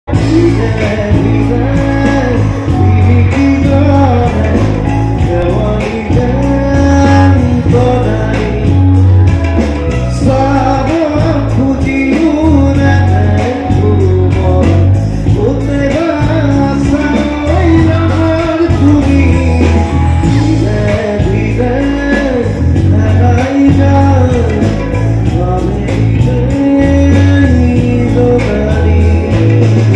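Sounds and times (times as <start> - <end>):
bass line: 0.0 - 29.9
band playing: 0.1 - 29.9
person singing: 0.1 - 29.9
steady drum beat: 0.1 - 29.9.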